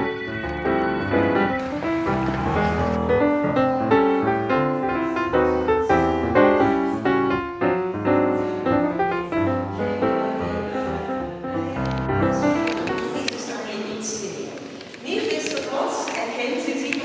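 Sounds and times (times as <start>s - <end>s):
background piano music: 0.0s - 14.5s.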